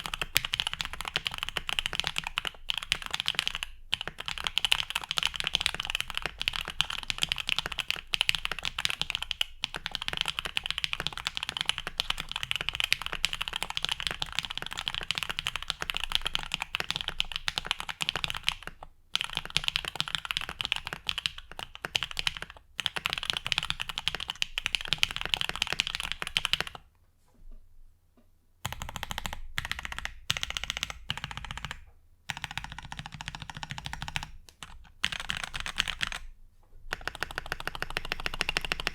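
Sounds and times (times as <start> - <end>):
fast mechanical keyboard typing: 0.0 - 26.8, 28.6 - 36.3, 36.9 - 38.9.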